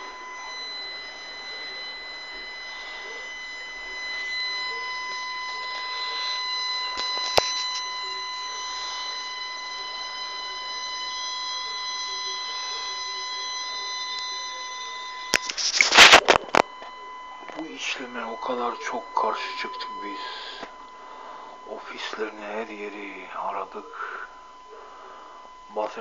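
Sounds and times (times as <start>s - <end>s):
high-pitched electronic whine: 0.0s - 26.0s.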